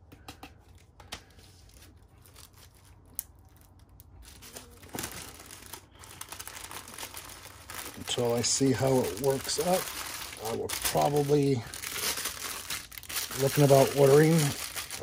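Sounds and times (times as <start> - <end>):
plastic packaging crinkling: 1.6 - 15.0.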